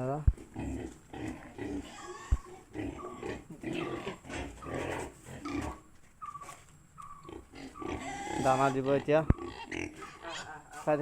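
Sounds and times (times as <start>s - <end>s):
pigs grunting and squeaking: 0.3s - 10.9s.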